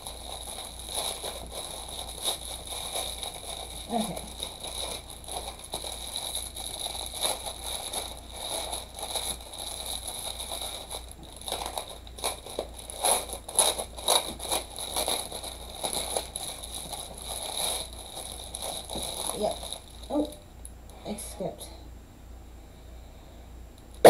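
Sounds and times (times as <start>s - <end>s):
plastic bag crinkling: 0.0s - 20.4s.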